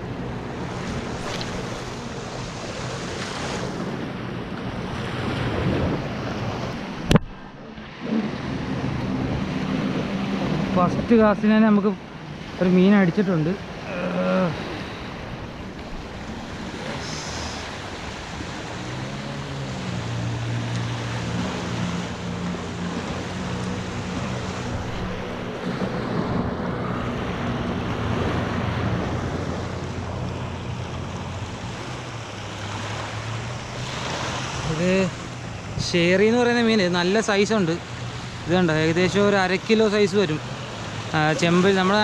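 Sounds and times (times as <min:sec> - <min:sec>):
wind on microphone: 0:00.0 - 0:11.4, 0:13.6 - 0:36.0
small waves on sandy shore: 0:00.0 - 0:42.0.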